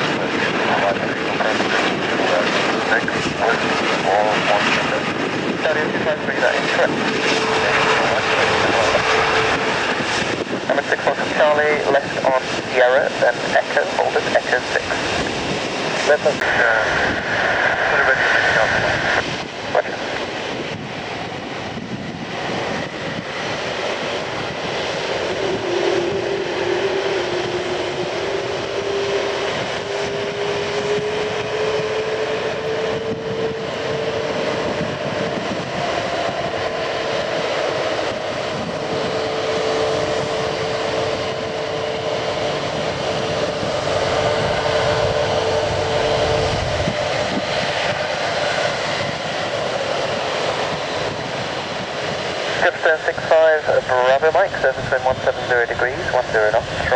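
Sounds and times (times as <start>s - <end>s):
jet engine whine: 0.0s - 56.9s
jet engines rushing: 0.0s - 56.9s.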